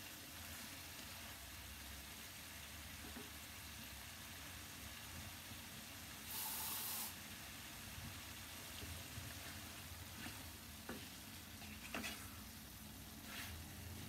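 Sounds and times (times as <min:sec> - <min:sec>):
vegetables frying in a pan: 0:00.0 - 0:14.0.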